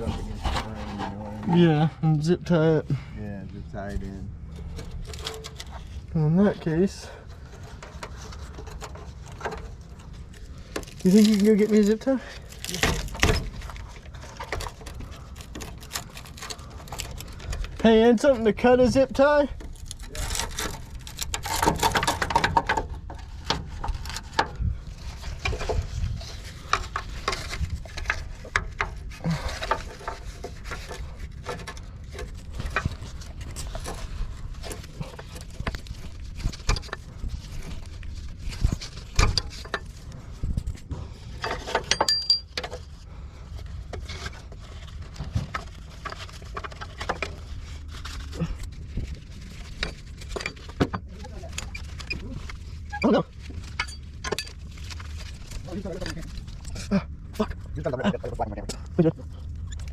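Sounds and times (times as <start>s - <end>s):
low background rumble: 0.0s - 59.9s.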